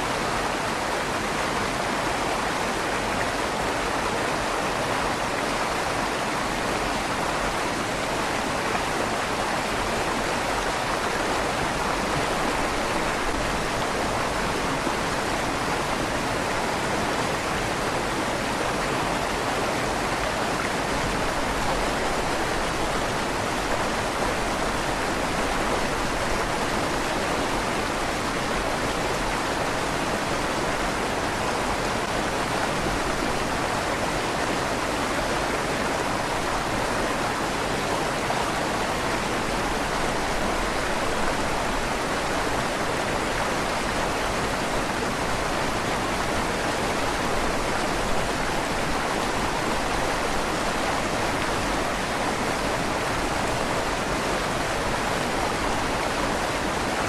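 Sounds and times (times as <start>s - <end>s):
river rushing under a bridge: 0.0s - 57.0s.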